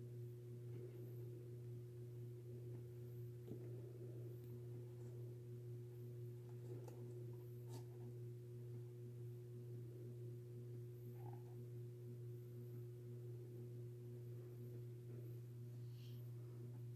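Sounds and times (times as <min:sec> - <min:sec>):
faint steady tone: 0:00.0 - 0:16.9
low hum: 0:00.0 - 0:16.9.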